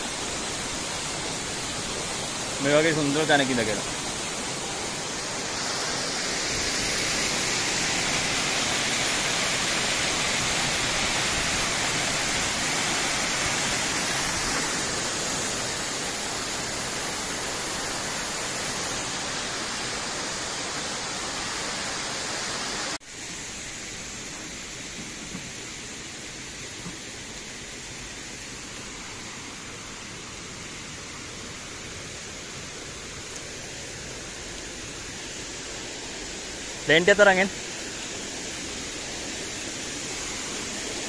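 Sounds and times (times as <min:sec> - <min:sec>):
waterfall rushing over rock: 0:00.0 - 0:41.0.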